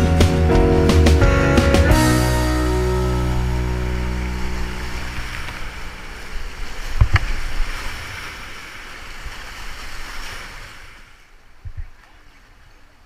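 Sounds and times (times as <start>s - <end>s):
whitewater rushing and splashing: 0.0s - 13.0s.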